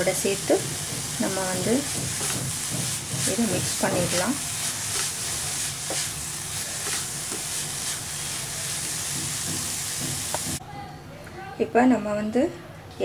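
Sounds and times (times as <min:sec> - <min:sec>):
beetroot sizzling in a pan: 0:00.0 - 0:10.6
spatula scraping a pan: 0:00.0 - 0:10.6.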